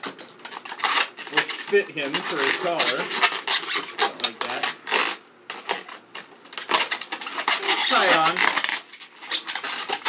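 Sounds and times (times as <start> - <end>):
balloons squeaking and rubbing: 0.0 - 10.0.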